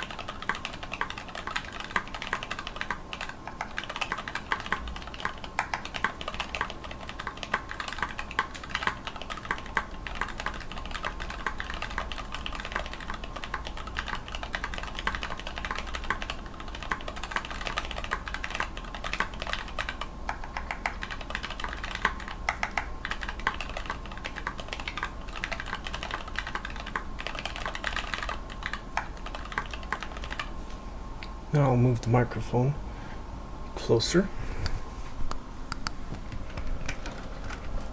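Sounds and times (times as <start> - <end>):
mechanical keyboard typing: 0.0 - 30.5.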